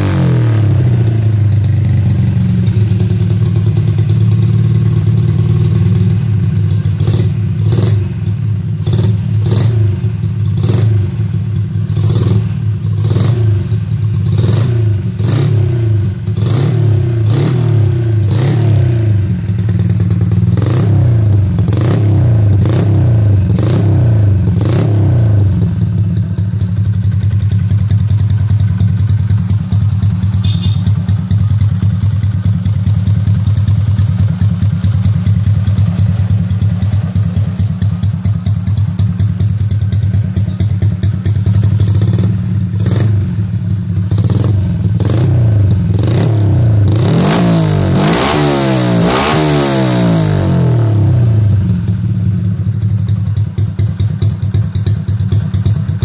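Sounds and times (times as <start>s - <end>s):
motorcycle engine revving and idling: 0.0s - 56.0s.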